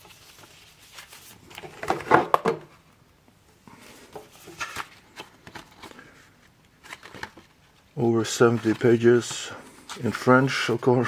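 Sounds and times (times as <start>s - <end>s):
paper rustling: 0.0s - 2.3s, 3.7s - 11.0s.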